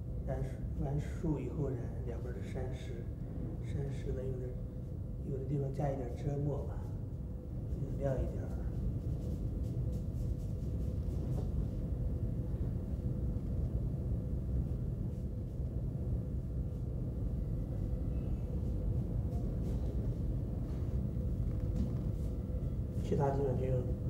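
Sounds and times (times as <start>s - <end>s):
faint steady hum: 0.0s - 24.0s
low background rumble: 0.0s - 24.0s.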